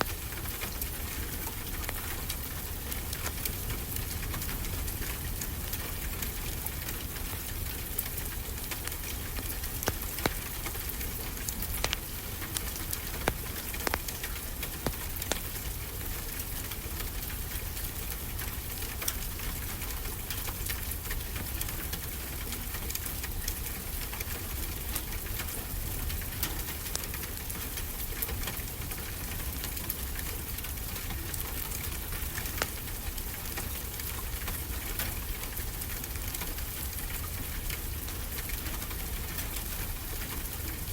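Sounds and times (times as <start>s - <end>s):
steady rain: 0.0s - 40.9s
wood fire crackling: 0.0s - 40.9s.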